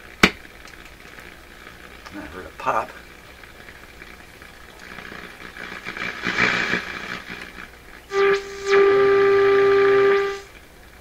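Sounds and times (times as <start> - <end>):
radio hissing and crackling: 0.0 - 11.0
steady buzzy tone: 0.0 - 11.0.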